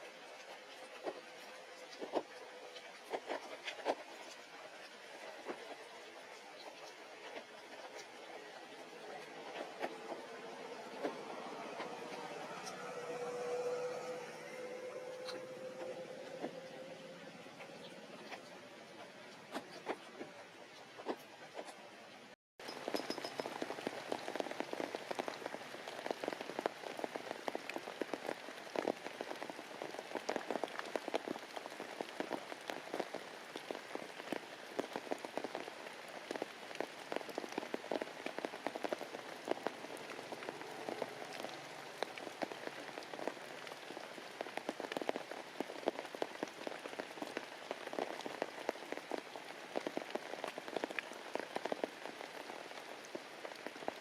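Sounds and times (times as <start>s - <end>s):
heavy rain: 0.0s - 21.2s, 22.2s - 54.0s.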